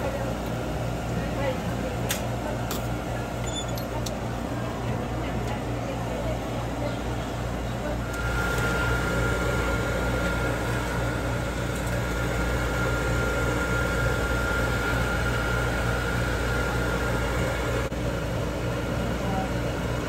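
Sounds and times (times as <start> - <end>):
machinery hum and hiss: 0.0 - 20.0.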